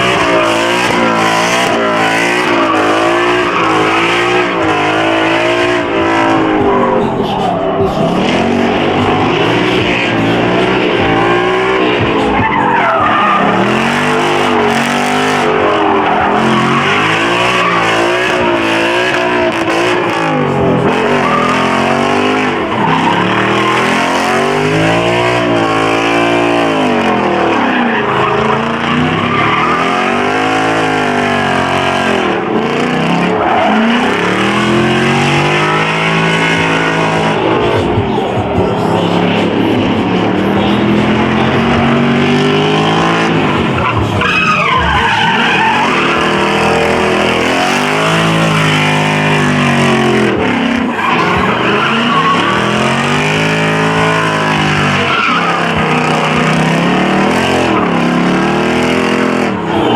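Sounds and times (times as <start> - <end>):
car engine revving hard: 0.0 - 59.9
tyres squealing and skidding: 0.0 - 59.9.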